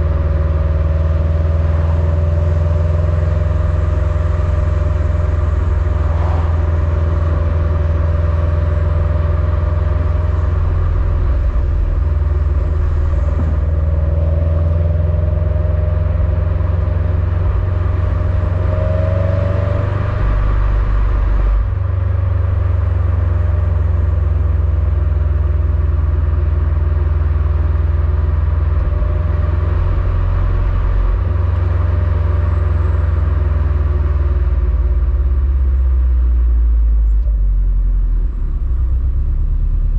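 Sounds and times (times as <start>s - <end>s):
car exhaust deep rumble: 0.0s - 39.9s.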